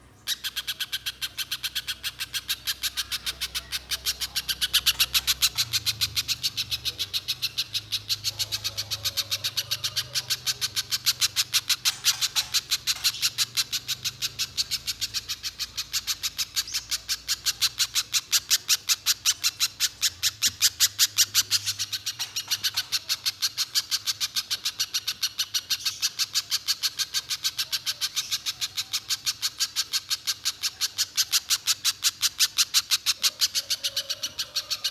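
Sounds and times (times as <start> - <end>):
bird singing rapid sharp notes: 0.2 - 34.9.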